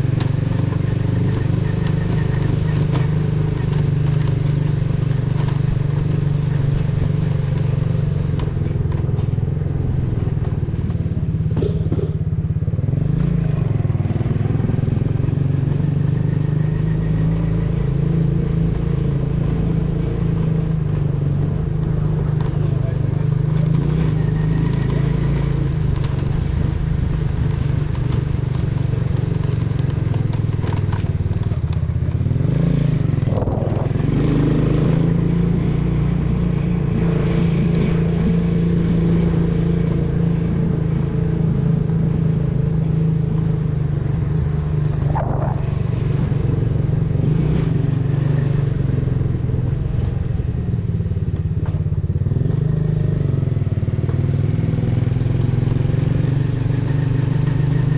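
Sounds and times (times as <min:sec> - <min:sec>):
motorcycle engine droning: 0:00.0 - 0:57.9.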